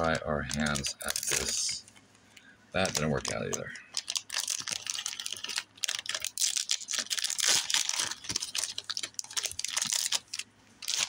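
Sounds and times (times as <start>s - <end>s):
foil wrapper crinkling: 0.0s - 1.8s, 2.8s - 11.0s.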